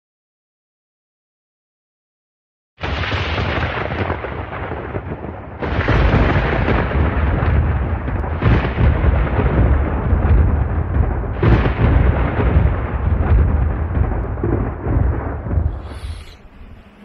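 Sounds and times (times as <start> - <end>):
deep thunder rumble: 2.8 - 17.0
thunder cracks: 2.8 - 17.0.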